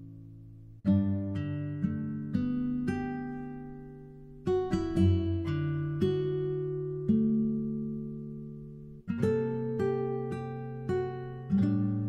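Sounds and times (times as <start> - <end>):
acoustic guitar strumming and plucking: 0.0 - 12.0.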